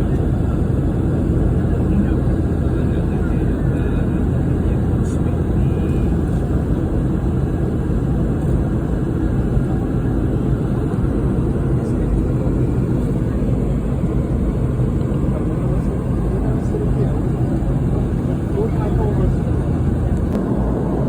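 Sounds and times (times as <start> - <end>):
airplane cabin noise: 0.0 - 21.0.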